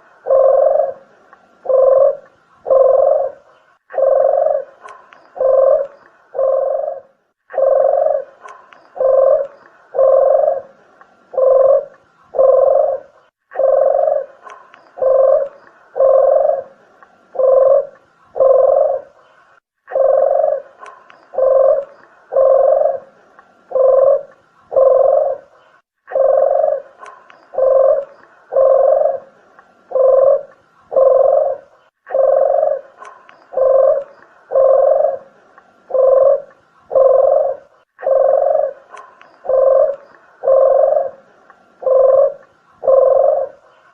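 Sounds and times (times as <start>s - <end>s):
dove cooing: 0.0s - 19.3s, 19.9s - 43.9s.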